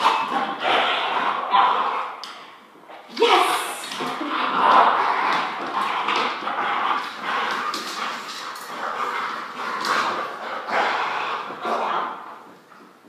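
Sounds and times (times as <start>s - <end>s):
dog growling in play: 0.0s - 2.2s, 3.9s - 12.6s.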